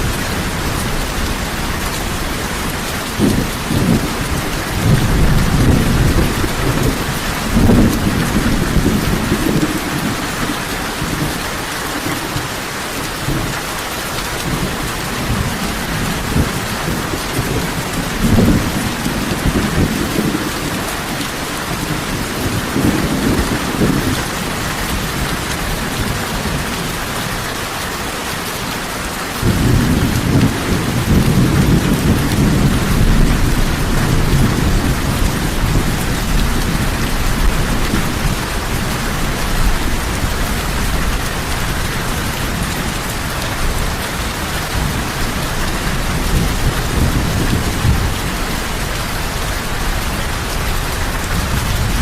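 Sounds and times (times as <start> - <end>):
thunder rumbling: 0.0 - 27.5, 29.3 - 52.0
heavy rain falling: 0.0 - 52.0.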